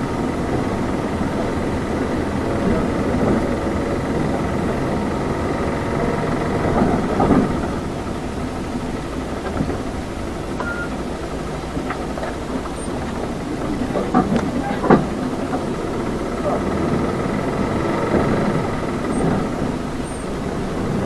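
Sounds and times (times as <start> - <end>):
bus engine and road noise: 0.0 - 21.0.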